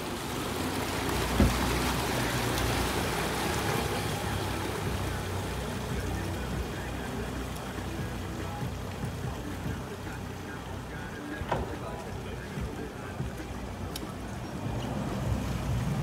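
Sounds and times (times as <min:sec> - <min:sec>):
outboard motors humming: 0:00.0 - 0:16.0
propeller wash churning water: 0:00.0 - 0:16.0.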